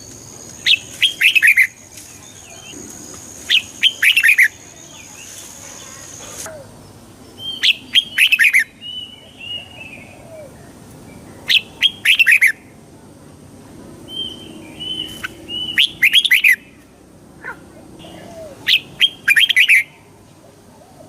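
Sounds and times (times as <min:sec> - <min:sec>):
bird singing warbled phrases: 0:00.0 - 0:12.7, 0:14.1 - 0:16.8, 0:18.0 - 0:20.1.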